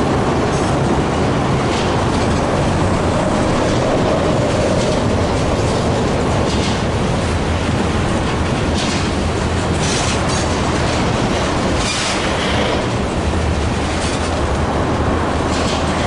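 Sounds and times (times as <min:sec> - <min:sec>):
freight train rumbling past: 0:00.0 - 0:16.0
hissing wheel and rail noise: 0:00.0 - 0:16.0.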